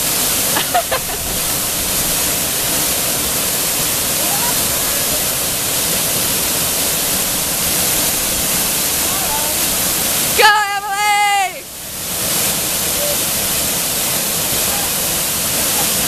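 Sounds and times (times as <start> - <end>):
falling water rushing: 0.0 - 16.0.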